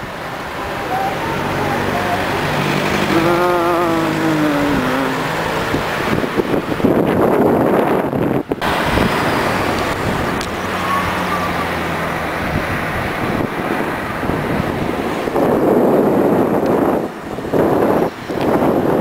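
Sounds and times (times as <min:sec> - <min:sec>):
road and wind noise: 0:00.0 - 0:19.0
vehicle engine: 0:00.0 - 0:19.0
vehicle passing close: 0:00.0 - 0:19.0.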